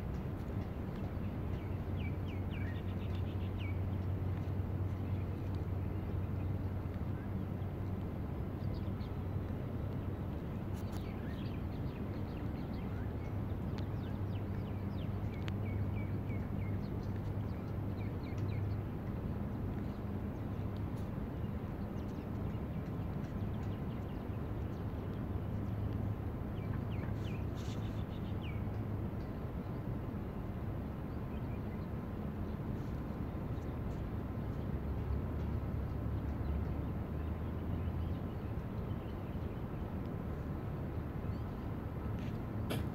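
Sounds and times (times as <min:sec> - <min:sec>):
low engine hum: 0:00.0 - 0:42.9.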